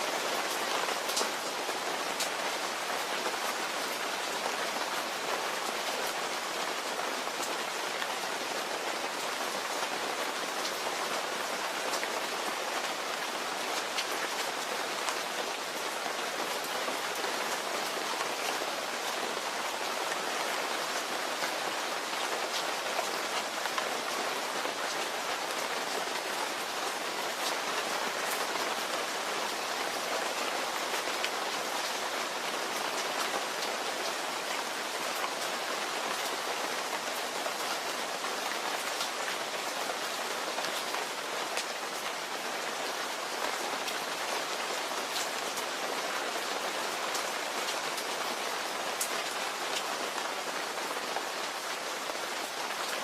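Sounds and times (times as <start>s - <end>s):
rain pattering on a surface: 0.0s - 53.0s.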